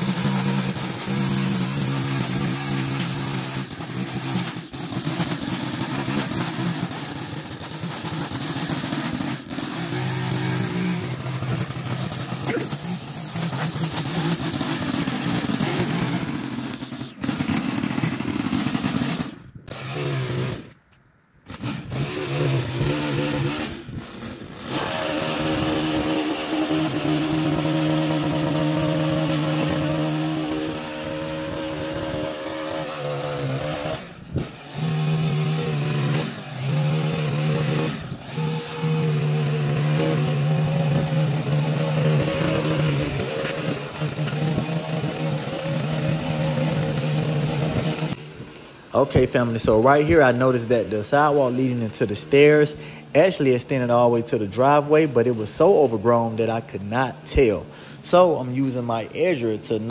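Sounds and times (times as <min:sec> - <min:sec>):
lawn edger engine running: 0:00.0 - 0:59.9.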